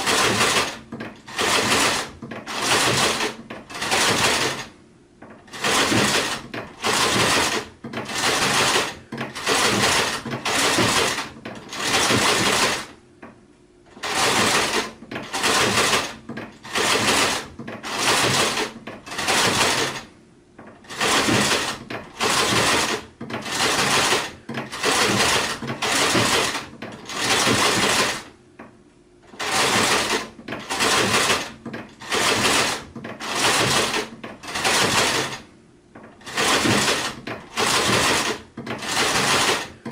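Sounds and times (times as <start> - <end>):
sewing machine stitching: 0.0 - 13.0, 13.9 - 28.3, 29.2 - 39.9.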